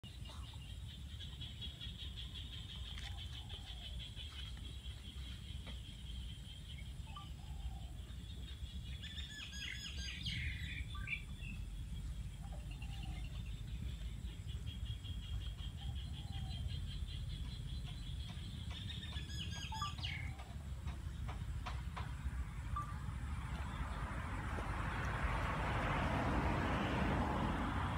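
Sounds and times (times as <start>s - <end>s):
birds chirping: 0.0s - 25.6s.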